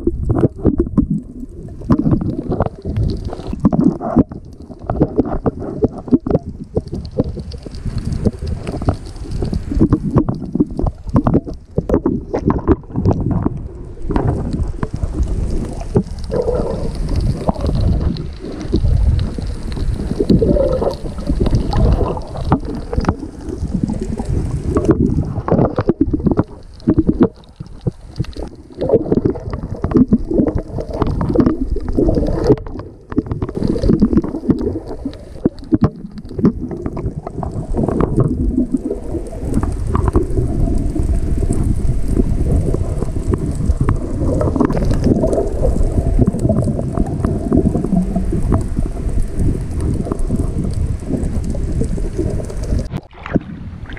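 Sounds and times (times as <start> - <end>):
muffled underwater sloshing: 0.0 - 53.9.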